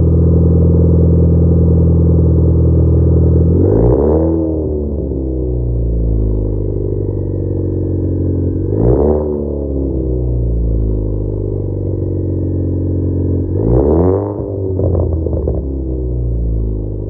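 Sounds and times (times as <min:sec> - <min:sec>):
car exhaust note: 0:00.0 - 0:17.0.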